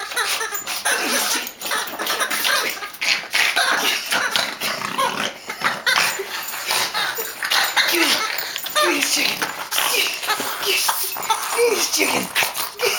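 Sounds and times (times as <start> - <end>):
dog making excited vocal noises: 0.0 - 12.9.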